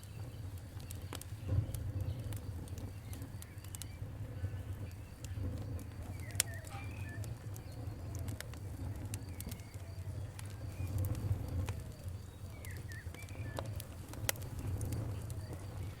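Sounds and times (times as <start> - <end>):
campfire crackling and popping: 0.0 - 16.0
birds calling: 0.2 - 16.0.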